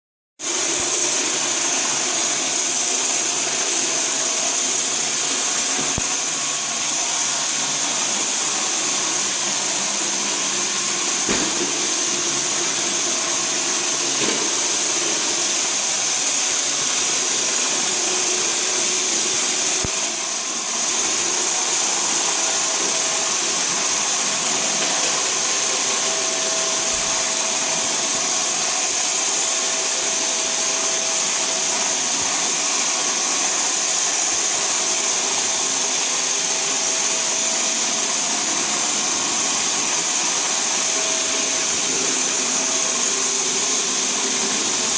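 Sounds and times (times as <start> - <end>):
robotic vacuum cleaner humming: 0.4 - 44.9.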